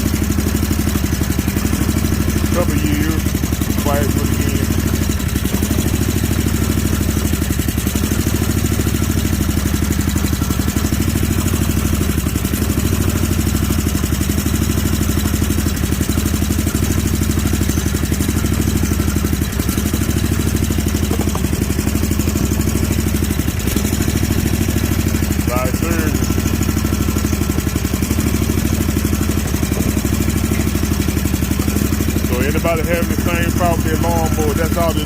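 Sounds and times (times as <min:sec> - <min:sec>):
mower engine running: 0:00.0 - 0:35.0.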